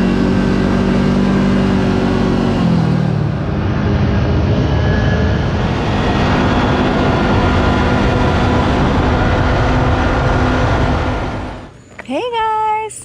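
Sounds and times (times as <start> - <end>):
vehicle engine drone: 0.0 - 11.8
vehicle ride rumble: 0.0 - 11.8.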